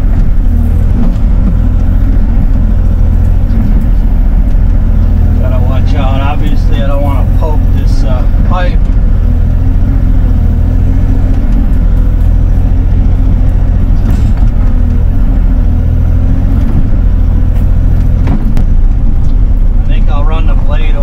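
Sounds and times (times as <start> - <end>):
excavator diesel engine rumbling: 0.0 - 21.0.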